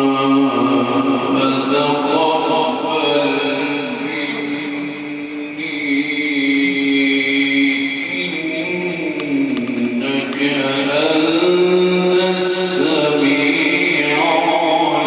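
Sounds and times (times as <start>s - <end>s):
person chanting melodic recitation: 0.0s - 15.0s.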